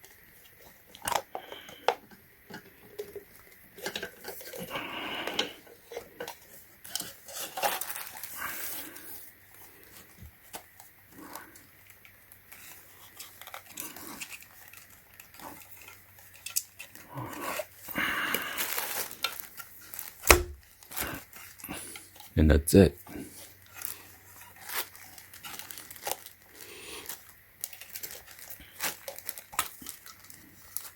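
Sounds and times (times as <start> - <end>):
plastic parts clicking and scraping: 0.0 - 22.3, 23.3 - 30.9.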